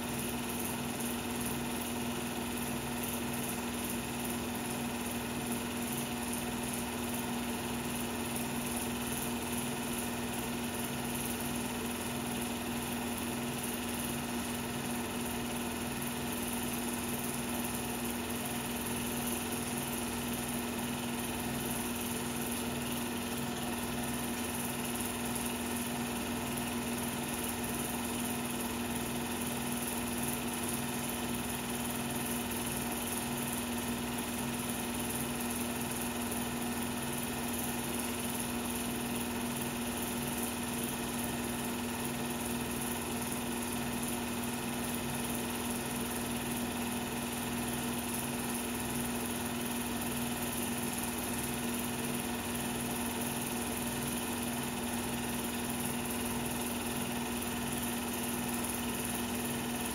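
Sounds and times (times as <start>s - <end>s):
film projector running: 0.0s - 59.9s.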